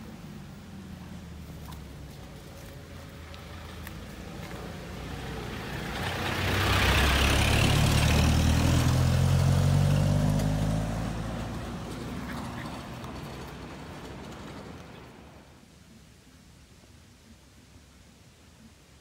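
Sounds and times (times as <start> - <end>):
motor vehicle driving past: 0.0 - 15.6.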